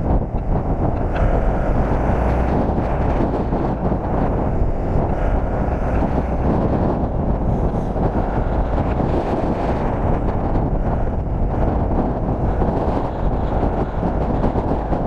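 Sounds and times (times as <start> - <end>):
wheels rolling on asphalt: 0.0 - 15.0
wind buffeting microphone: 0.0 - 15.0.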